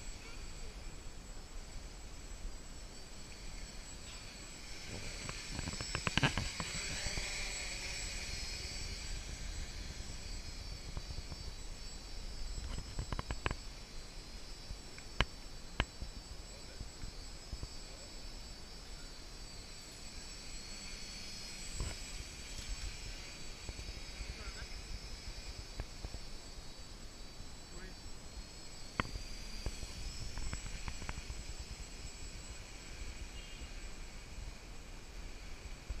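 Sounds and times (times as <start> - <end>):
drone motors whining: 0.0 - 36.0.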